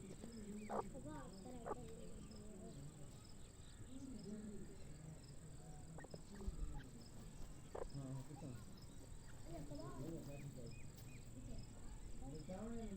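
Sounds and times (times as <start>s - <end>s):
francolins calling: 0.0s - 12.9s.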